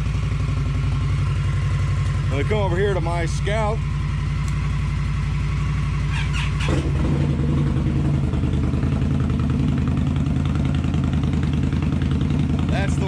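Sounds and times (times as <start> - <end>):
motorcycle idling: 0.0 - 13.0.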